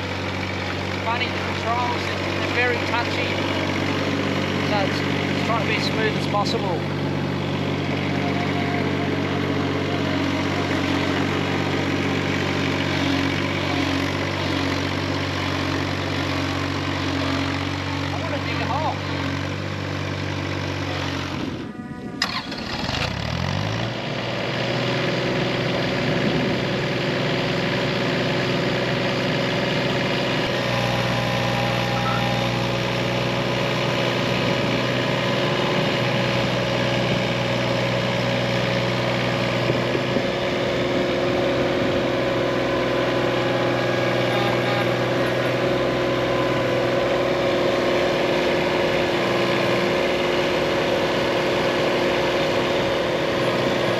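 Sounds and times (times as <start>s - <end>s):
excavator diesel engine revving: 0.0s - 53.9s.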